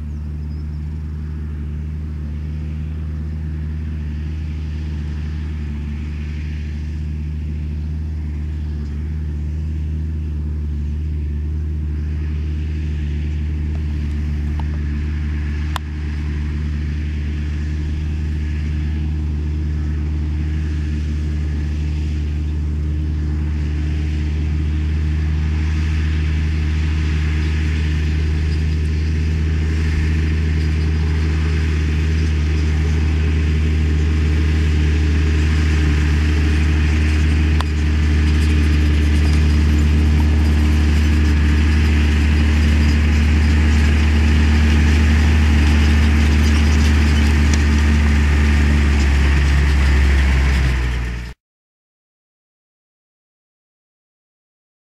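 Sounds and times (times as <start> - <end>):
tractor diesel engine under load: 0.0 - 51.4.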